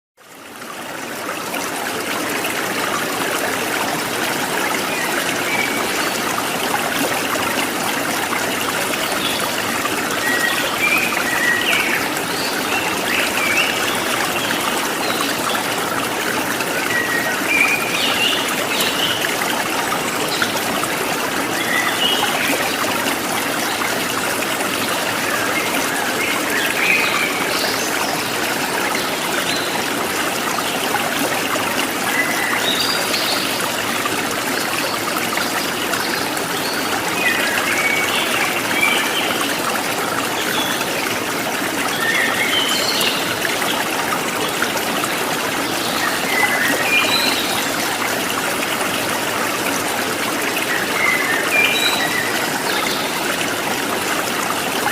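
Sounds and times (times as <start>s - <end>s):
stream water trickling: 0.2s - 54.9s.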